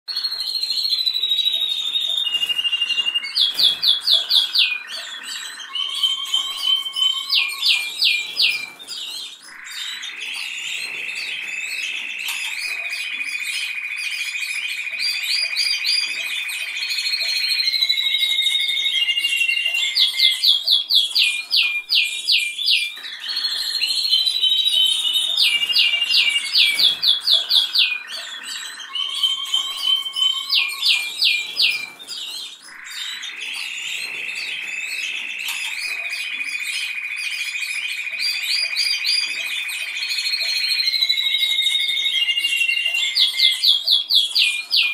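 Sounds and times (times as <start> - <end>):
canary singing trills: 0.1 - 44.9.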